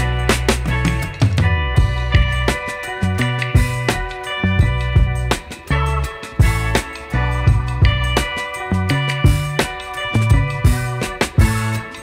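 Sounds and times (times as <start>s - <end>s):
music with drums bass and guitar: 0.0s - 12.0s.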